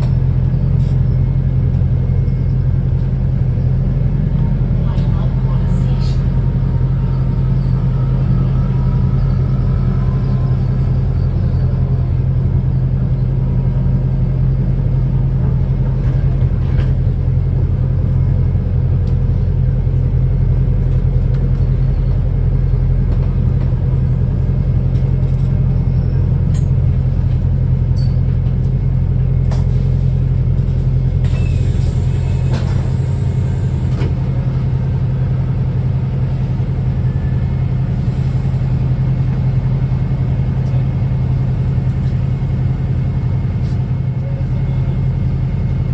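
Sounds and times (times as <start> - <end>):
bus diesel engine droning: 0.0 - 45.9.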